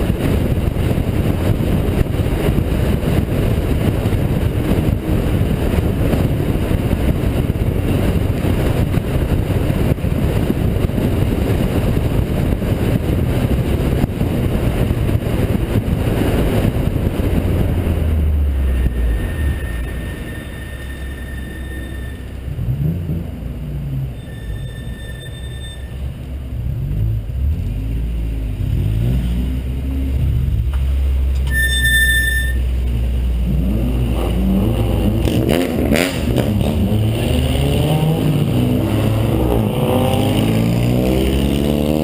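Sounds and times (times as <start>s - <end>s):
road and wind noise: 0.0s - 42.0s.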